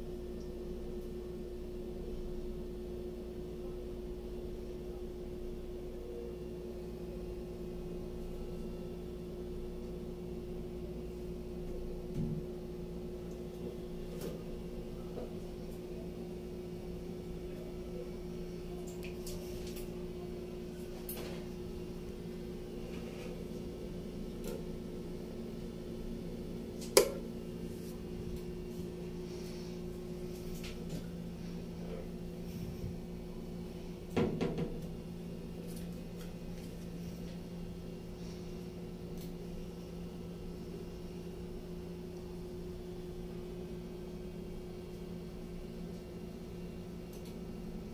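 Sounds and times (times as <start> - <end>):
low mechanical hum: 0.0 - 47.9.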